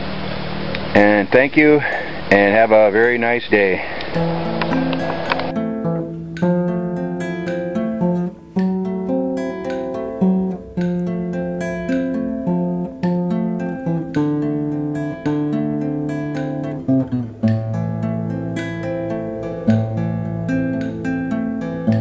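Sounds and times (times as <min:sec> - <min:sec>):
acoustic guitar picking: 0:00.0 - 0:22.0.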